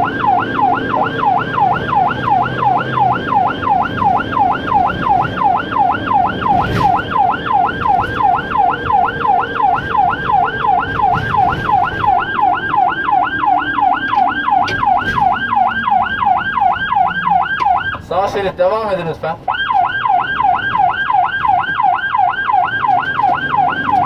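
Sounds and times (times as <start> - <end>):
siren rapid yelp: 0.0 - 18.4, 19.4 - 24.0
engine and road noise: 0.0 - 24.0.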